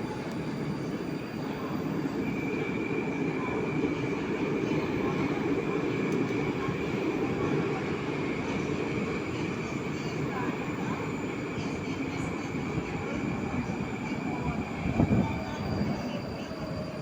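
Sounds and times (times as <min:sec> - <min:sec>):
metro train rumbling: 0:00.0 - 0:17.0.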